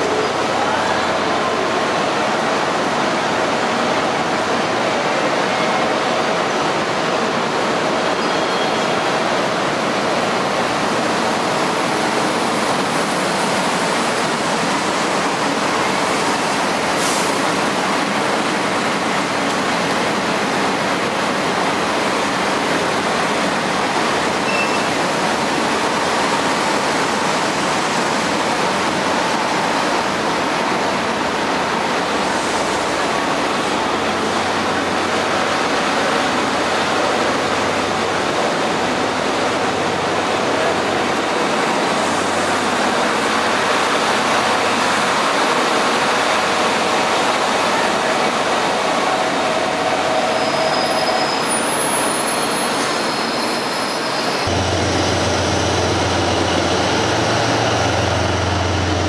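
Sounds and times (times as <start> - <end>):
train cars rolling past: 8.8 - 59.0.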